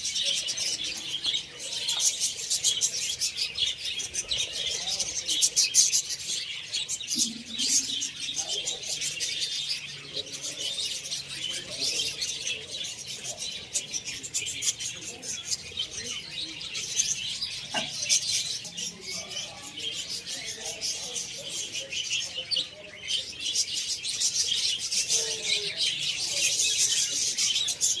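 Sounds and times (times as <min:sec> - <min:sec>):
small birds twittering: 0:00.0 - 0:28.0.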